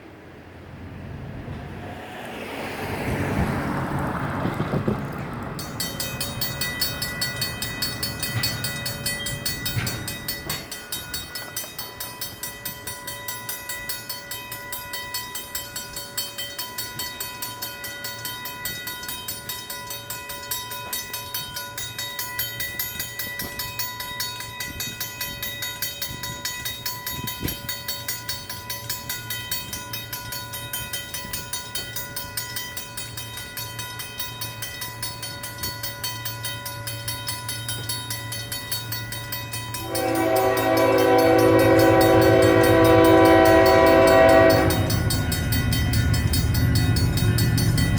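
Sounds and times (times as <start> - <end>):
mechanical crossing bells ringing: 5.6 - 47.9.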